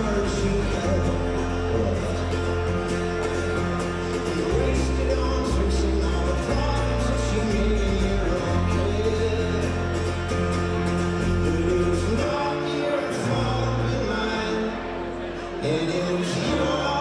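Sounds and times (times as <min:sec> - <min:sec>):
low bass notes: 0:00.0 - 0:17.0
man singing: 0:00.0 - 0:17.0
strummed acoustic guitar: 0:00.0 - 0:17.0.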